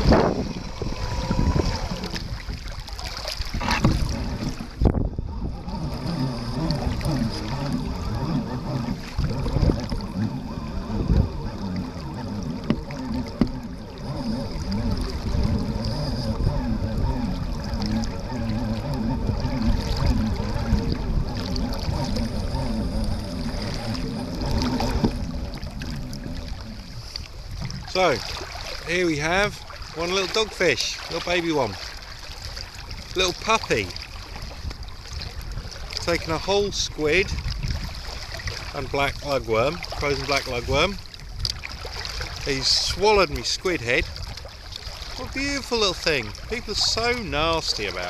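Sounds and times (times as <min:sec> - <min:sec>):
water moving around kayak: 0:00.0 - 0:48.0
wind buffeting microphone: 0:00.0 - 0:48.0.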